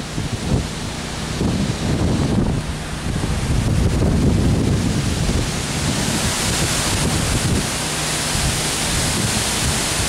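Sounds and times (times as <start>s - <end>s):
strong wind rushing through trees: 0.0s - 10.0s
wind buffeting on microphone: 0.0s - 10.0s.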